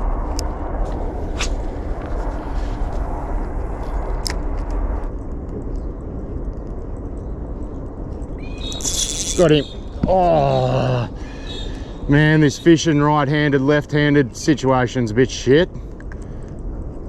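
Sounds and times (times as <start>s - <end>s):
outdoor rumble and hiss: 0.0s - 17.0s.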